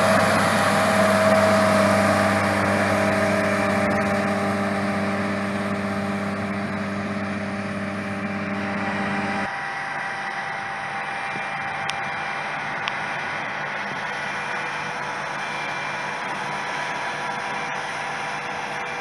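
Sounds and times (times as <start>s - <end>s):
distant combine harvester drone: 0.0s - 19.0s
faint engine hum: 0.0s - 19.0s.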